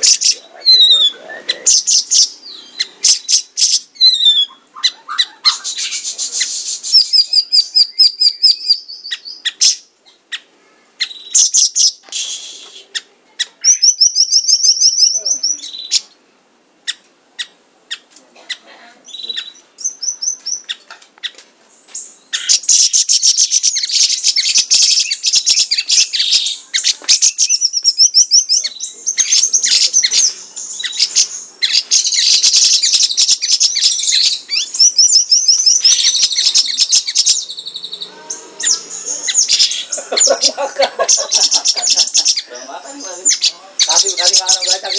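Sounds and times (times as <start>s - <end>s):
songbird singing trills: 0.0s - 16.2s, 16.9s - 44.9s.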